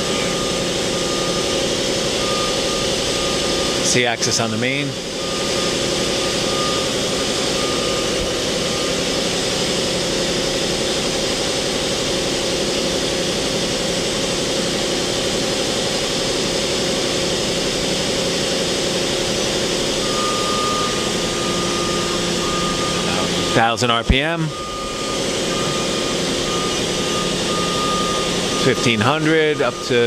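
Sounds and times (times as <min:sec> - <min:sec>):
high whine: 0:00.0 - 0:30.0
machine hum: 0:00.0 - 0:30.0.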